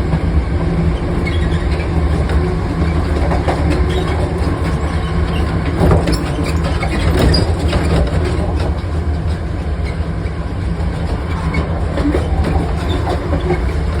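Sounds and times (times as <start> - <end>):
train diesel engine drone: 0.0 - 14.0
wheels clicking over rail joints: 1.1 - 14.0.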